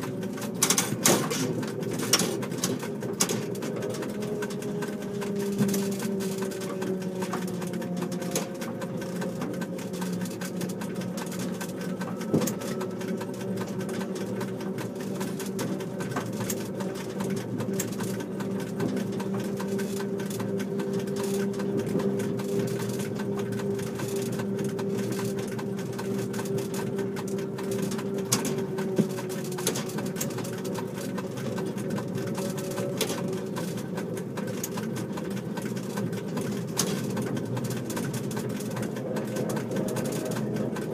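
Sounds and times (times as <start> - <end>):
electric train motor hum: 0.0 - 40.9
wheels clicking over track: 0.0 - 40.9.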